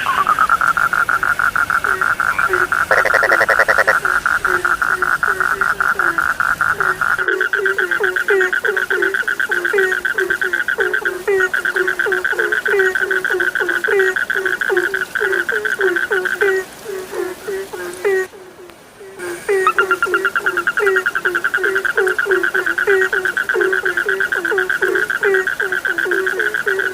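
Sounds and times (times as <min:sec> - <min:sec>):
frogs trilling: 0:00.0 - 0:26.9
loud pulsed frog call: 0:00.0 - 0:26.9
low frog croaks: 0:00.0 - 0:26.9.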